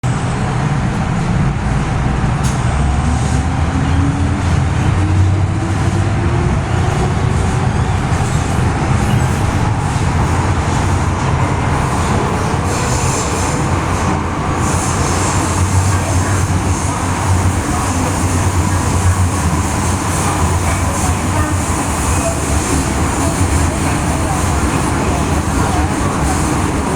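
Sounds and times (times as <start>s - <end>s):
train rumbling on track: 0.0s - 26.9s.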